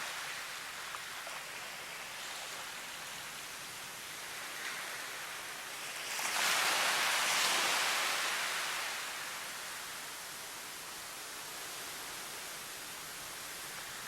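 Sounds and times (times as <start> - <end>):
steady hiss of water: 0.0 - 14.0.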